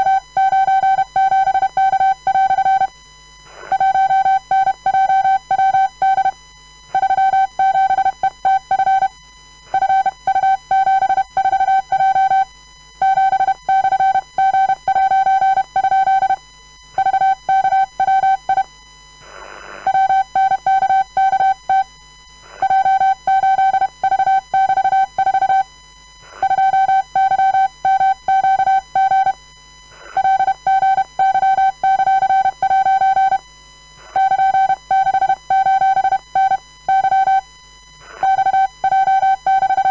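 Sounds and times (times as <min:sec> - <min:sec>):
morse code beeps: 0:00.0 - 0:02.9, 0:03.8 - 0:06.3, 0:07.0 - 0:09.1, 0:09.8 - 0:16.4, 0:17.0 - 0:18.7, 0:19.9 - 0:21.9, 0:22.6 - 0:25.6, 0:26.4 - 0:29.4, 0:30.2 - 0:33.4, 0:34.2 - 0:37.5, 0:38.2 - 0:39.9.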